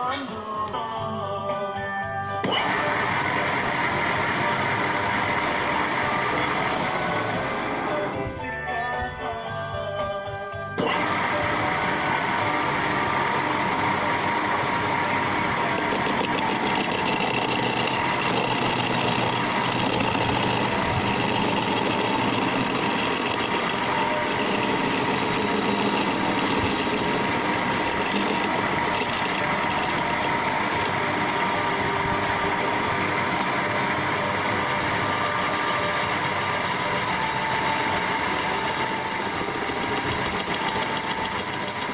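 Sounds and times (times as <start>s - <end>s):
machine running with faint whine: 2.5s - 8.0s, 10.9s - 41.9s.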